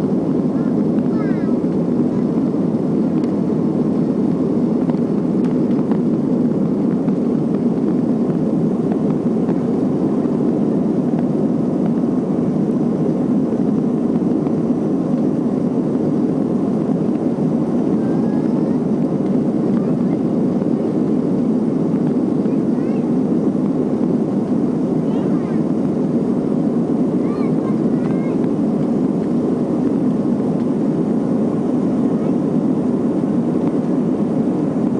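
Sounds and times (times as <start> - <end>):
airplane cabin rushing noise: 0.0 - 34.9.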